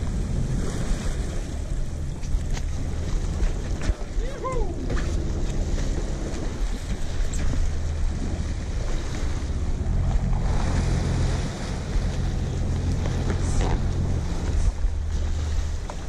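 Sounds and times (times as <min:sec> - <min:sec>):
boat engine humming: 0:00.0 - 0:16.0
sea water rushing along hull: 0:00.0 - 0:16.0
wind buffeting microphone: 0:00.0 - 0:16.0.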